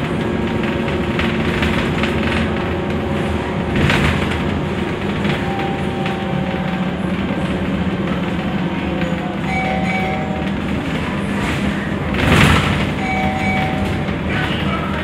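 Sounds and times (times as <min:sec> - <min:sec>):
bus engine drone: 0:00.0 - 0:15.0
road and tyre noise: 0:00.0 - 0:15.0.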